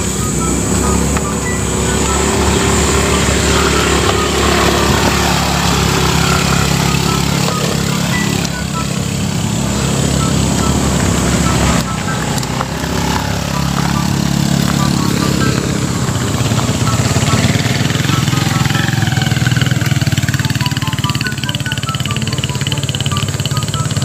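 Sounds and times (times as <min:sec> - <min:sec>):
motorcycle engines running: 0:00.0 - 0:24.0
road noise on gravel: 0:00.0 - 0:24.0.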